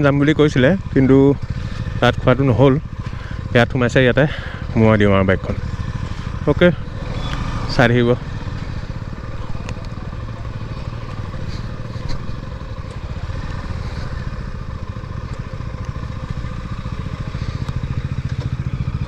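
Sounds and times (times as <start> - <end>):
motorcycle engine running at low revs: 0.0 - 19.0.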